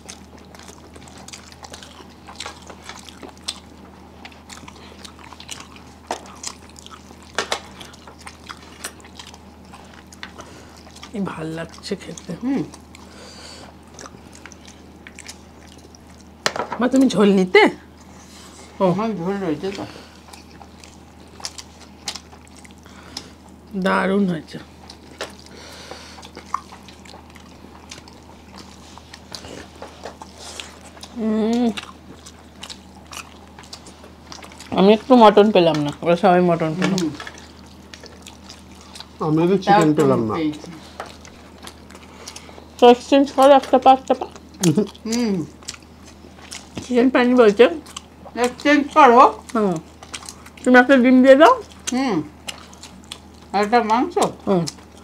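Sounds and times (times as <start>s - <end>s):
low steady hum: 0.0s - 55.0s
people chewing food: 0.0s - 55.0s.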